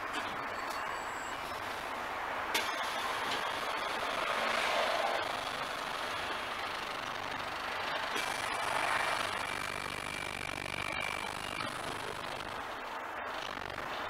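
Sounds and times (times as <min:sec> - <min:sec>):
bus engine and road noise: 0:00.0 - 0:14.0
steady high whine: 0:00.0 - 0:14.0.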